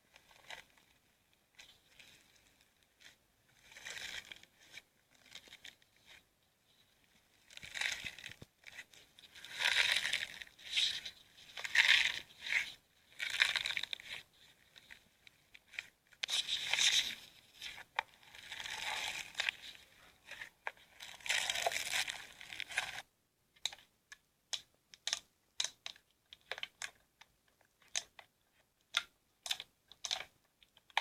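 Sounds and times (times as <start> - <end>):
slime crackling and crinkling: 0.1 - 23.1, 28.9 - 31.0.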